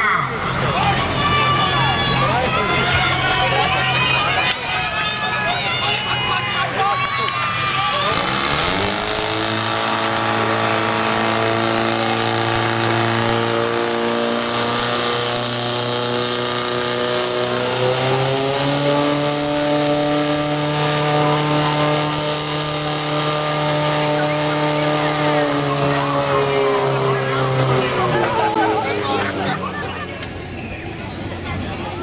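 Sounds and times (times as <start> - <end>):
fire pump engine revving: 0.0 - 32.0.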